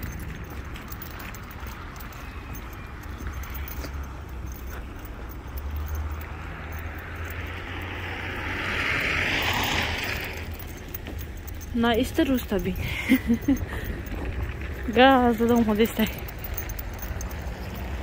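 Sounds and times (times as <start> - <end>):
low rumble of passing cars: 0.0 - 18.0.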